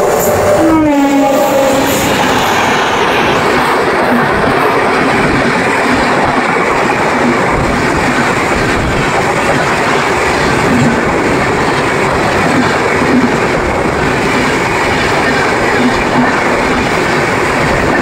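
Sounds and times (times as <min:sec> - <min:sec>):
train rumbling on track: 0:00.0 - 0:18.0
wheels clickety-clack: 0:03.4 - 0:18.0.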